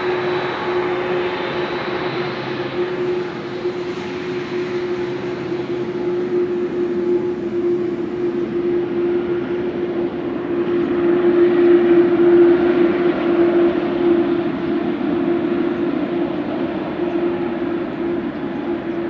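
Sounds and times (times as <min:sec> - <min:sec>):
rushing jet noise: 0:00.0 - 0:18.8
jet engines humming: 0:00.0 - 0:19.0.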